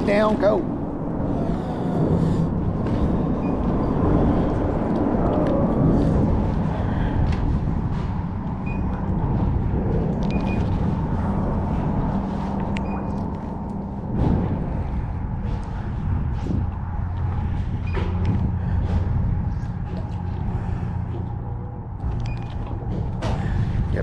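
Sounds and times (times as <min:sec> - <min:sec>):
traffic rumble on bridge: 0:00.0 - 0:24.0.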